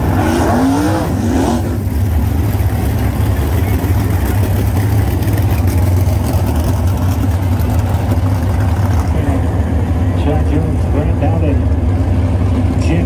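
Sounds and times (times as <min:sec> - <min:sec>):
racing car engines droning: 0:00.0 - 0:13.0.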